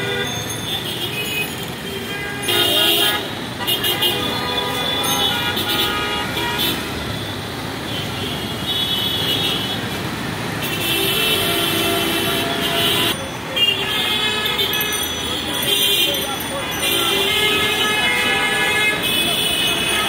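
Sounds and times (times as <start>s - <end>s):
vehicle horns honking: 0.0s - 20.0s.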